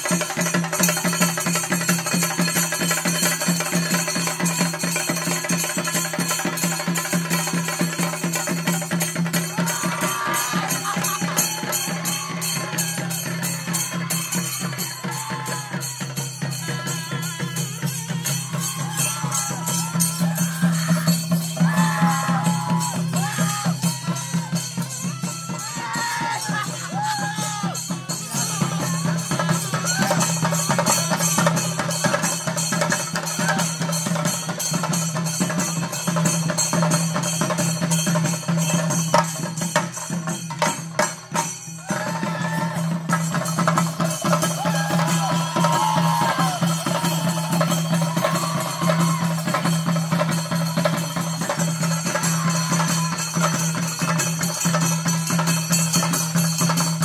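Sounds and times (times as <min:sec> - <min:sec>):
drums beaten fast with sticks: 0:00.0 - 0:57.0.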